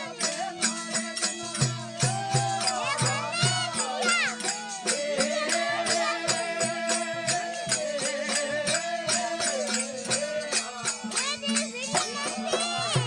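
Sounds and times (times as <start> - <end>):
rattling hand percussion: 0.0 - 13.0.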